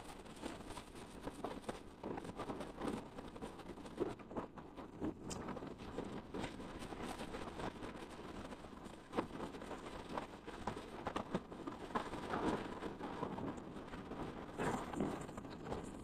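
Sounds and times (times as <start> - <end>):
wind noise: 0.0 - 16.0.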